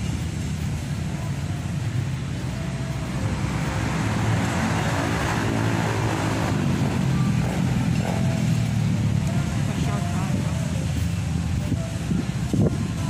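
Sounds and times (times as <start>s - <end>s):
motor vehicle engine: 0.0s - 13.0s
road traffic rumble: 0.0s - 13.0s.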